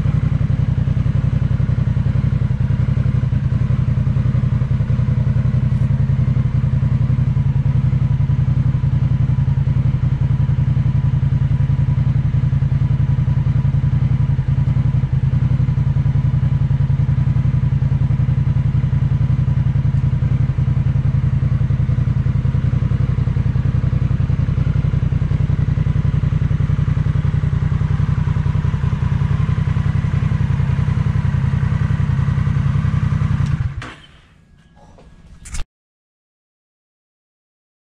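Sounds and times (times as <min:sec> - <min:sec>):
motorcycle engine idling: 0:00.0 - 0:35.3.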